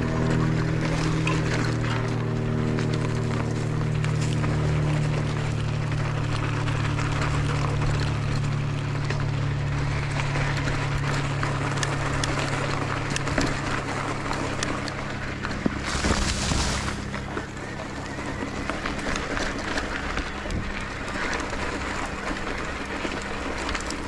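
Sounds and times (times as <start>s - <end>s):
bike rattles and clicks: 0.0s - 24.0s
low hum: 0.0s - 24.0s
tyres crunching on gravel: 0.0s - 24.0s.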